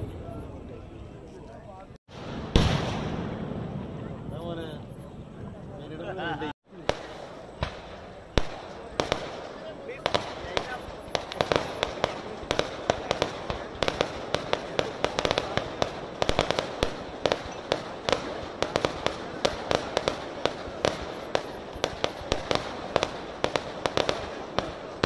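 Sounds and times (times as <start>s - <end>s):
fireworks bangs: 2.1s - 5.3s, 6.7s - 25.0s.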